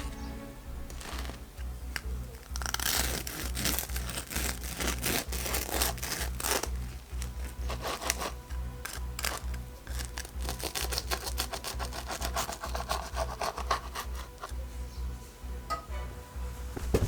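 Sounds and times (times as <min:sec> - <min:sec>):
paper crinkling and tearing: 0:00.0 - 0:14.6
soft background music beat: 0:00.0 - 0:17.0.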